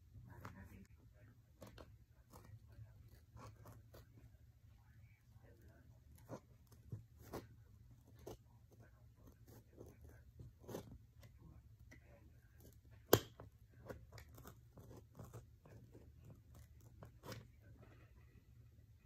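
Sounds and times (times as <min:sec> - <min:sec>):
craft knife cutting foam: 0:01.5 - 0:04.5, 0:05.4 - 0:17.8.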